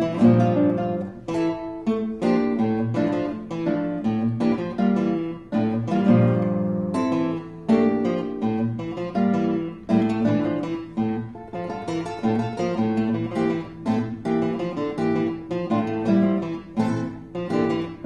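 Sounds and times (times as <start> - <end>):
classical guitars playing: 0.0 - 18.0.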